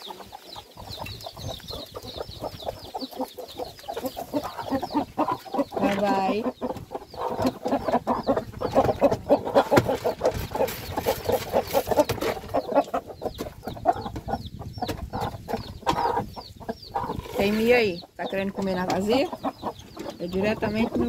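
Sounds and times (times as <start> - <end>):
chickens clucking: 0.0 - 21.0
chicks peeping: 0.0 - 21.0.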